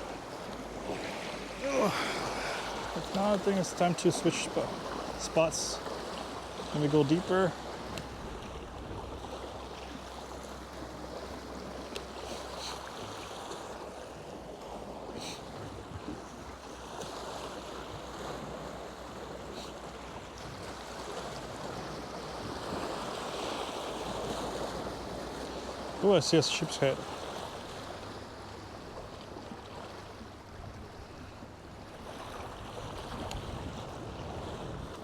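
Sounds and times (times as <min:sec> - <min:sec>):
surf washing in: 0:00.0 - 0:35.0.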